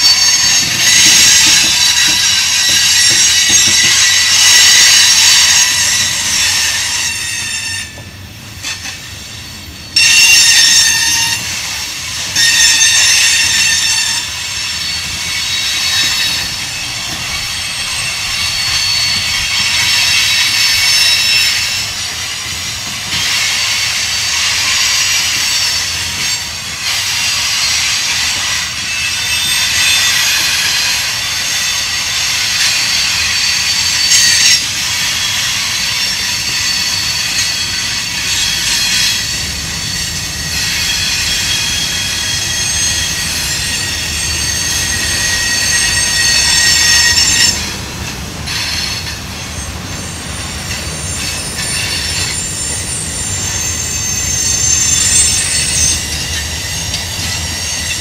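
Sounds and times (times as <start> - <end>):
freight train rumble: 0.0 - 58.0
train wheels squealing: 0.0 - 58.0.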